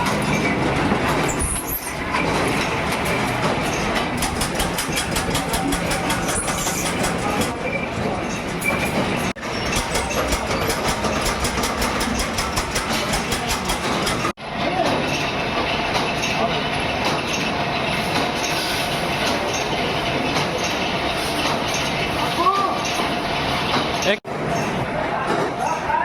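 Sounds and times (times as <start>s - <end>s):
factory machinery clattering: 0.0s - 25.9s.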